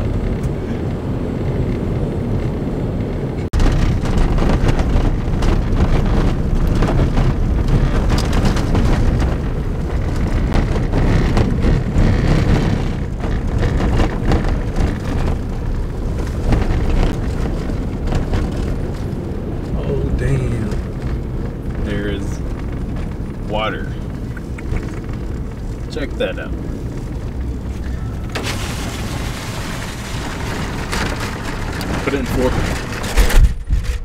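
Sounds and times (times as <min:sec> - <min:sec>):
rattles on dirt road: 0:00.0 - 0:34.0
truck engine from inside cab: 0:00.0 - 0:34.0.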